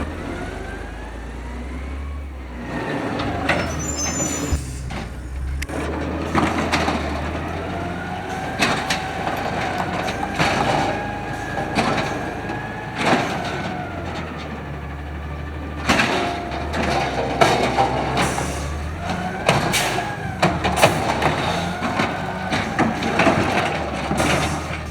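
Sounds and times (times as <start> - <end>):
garbage truck hydraulic whine: 0.0 - 24.9.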